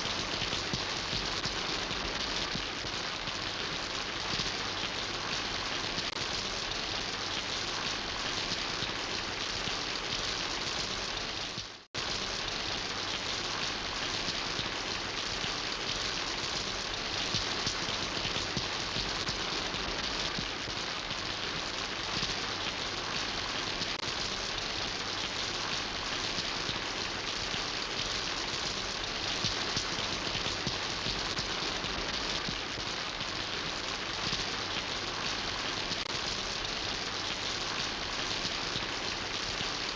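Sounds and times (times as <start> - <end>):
rain falling on surfaces: 0.0 - 39.9.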